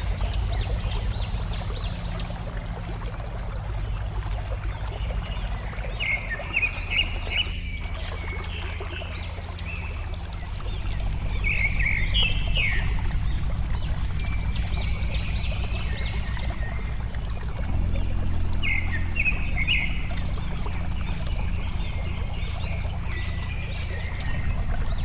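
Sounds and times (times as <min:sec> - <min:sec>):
water babbling: 0:00.0 - 0:25.0.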